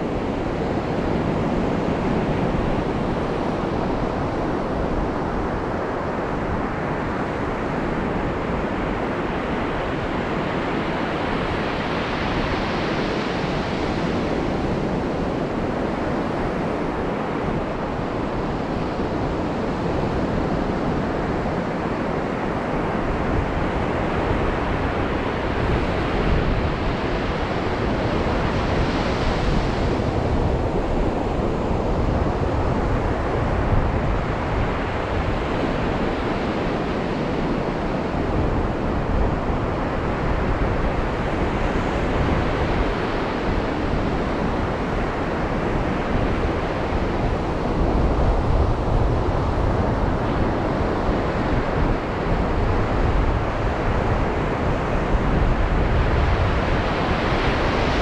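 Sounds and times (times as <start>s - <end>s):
ocean surf: 0.0s - 58.0s.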